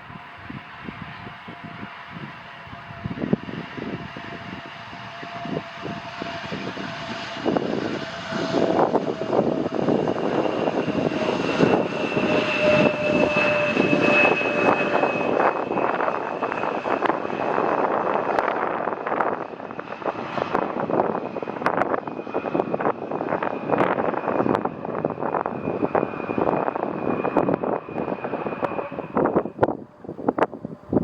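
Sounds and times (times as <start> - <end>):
jet engine whine and rumble: 0.0 - 31.0.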